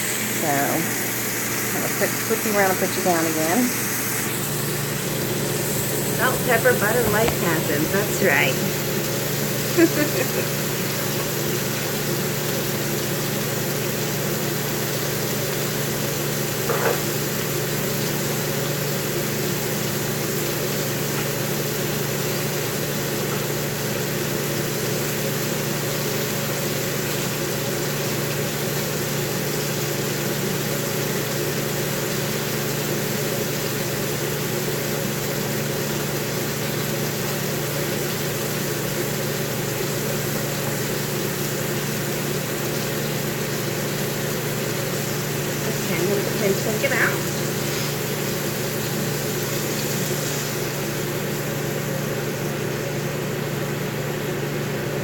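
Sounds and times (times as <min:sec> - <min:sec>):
exhaust fan humming: 0:00.0 - 0:55.0.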